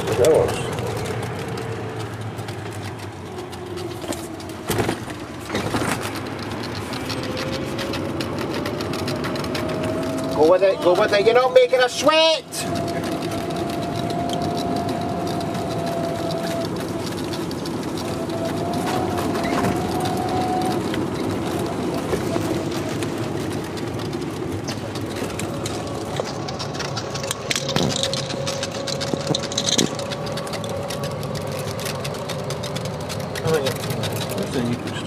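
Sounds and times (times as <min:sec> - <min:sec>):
golf cart motor hum: 0:00.0 - 0:35.0
road noise: 0:00.0 - 0:35.0.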